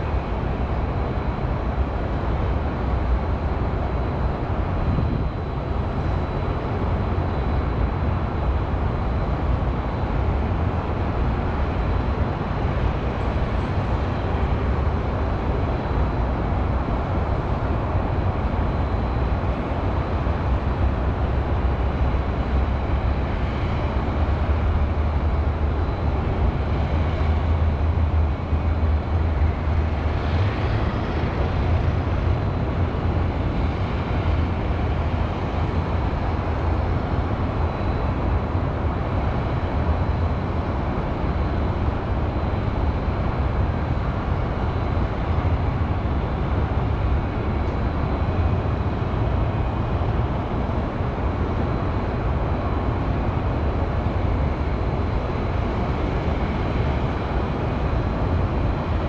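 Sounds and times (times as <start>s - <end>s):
highway traffic hum: 0.0s - 59.0s.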